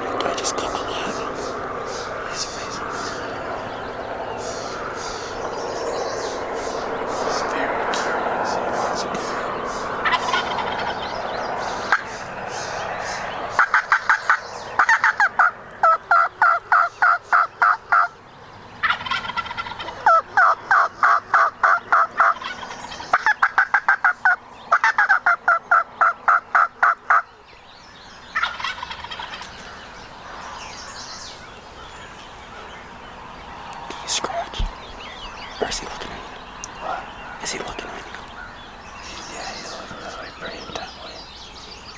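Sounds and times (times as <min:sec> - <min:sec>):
wild turkey calling: 0:00.0 - 0:18.2, 0:18.8 - 0:41.9.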